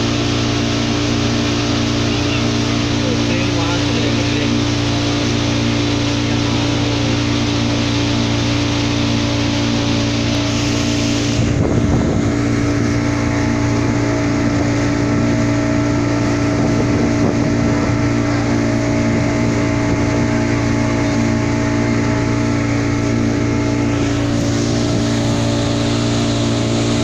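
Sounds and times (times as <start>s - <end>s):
boat motor droning: 0.0s - 27.0s
rushing wake water: 0.0s - 27.0s.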